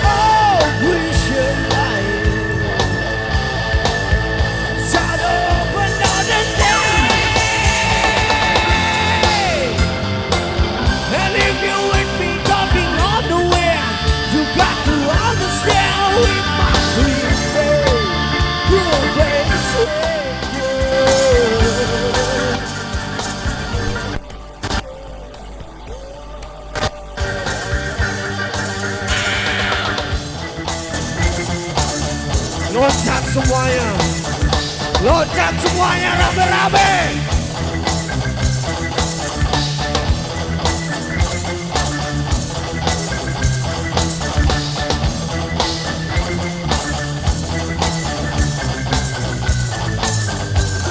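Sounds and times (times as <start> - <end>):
bass guitar: 0.0 - 50.9
electric guitar: 0.0 - 50.9
rock band playing live: 0.0 - 50.9
drum kit beat: 3.7 - 20.2, 20.8 - 50.9.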